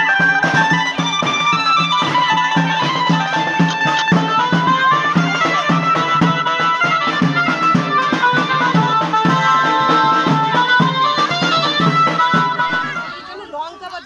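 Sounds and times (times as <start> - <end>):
quick steady drum beat: 0.0 - 13.5
held melody notes: 0.0 - 14.0.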